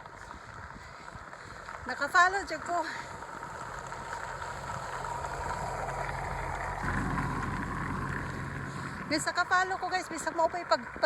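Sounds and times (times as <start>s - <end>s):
vehicle engine running: 1.5s - 11.0s.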